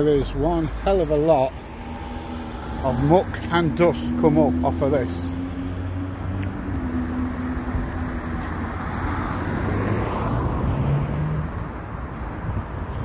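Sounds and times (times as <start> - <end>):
diesel engine hum: 0.0 - 13.0
road traffic: 0.0 - 13.0.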